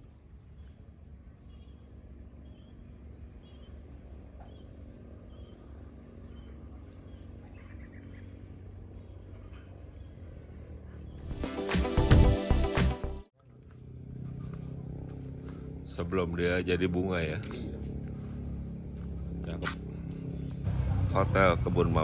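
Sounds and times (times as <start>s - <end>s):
faint birds chirping: 0.0s - 11.5s, 13.4s - 22.0s.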